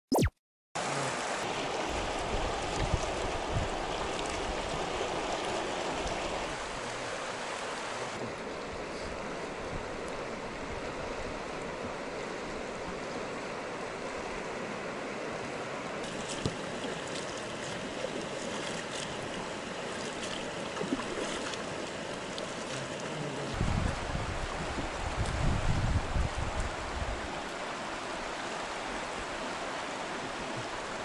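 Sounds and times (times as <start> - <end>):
river water rushing over shallows: 0.1 - 31.0.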